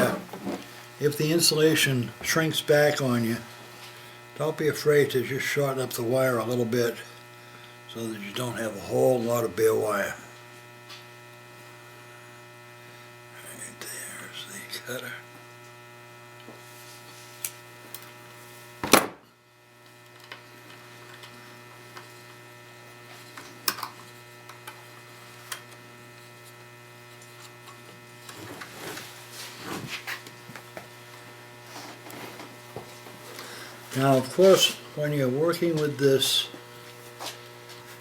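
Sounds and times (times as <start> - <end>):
electrical mains hum: 0.0 - 38.0.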